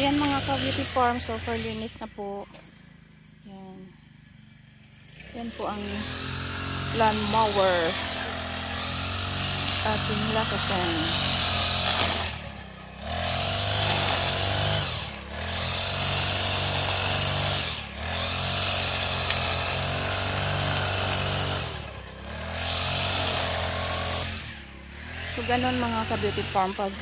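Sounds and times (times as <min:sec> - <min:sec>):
brush cutter engine revving: 0:00.0 - 0:02.8, 0:03.5 - 0:27.0.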